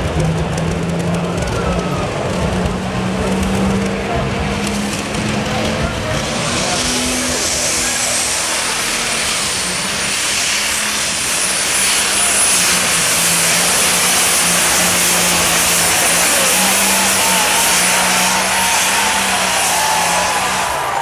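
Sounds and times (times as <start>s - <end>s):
high turbo whine: 0.0s - 21.0s
tractor engine running hard: 0.0s - 21.0s.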